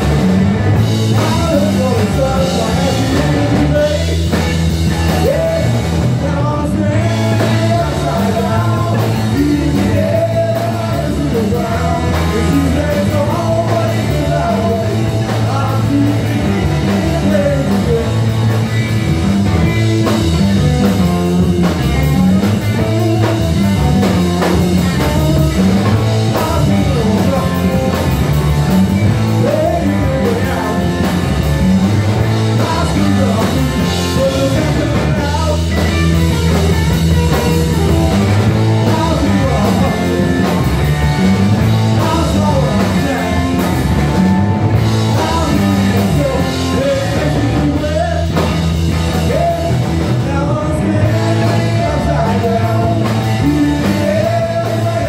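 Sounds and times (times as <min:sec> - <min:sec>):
drum kit: 0:00.0 - 0:55.0
electric guitars: 0:00.0 - 0:55.0
man singing: 0:00.8 - 0:55.0.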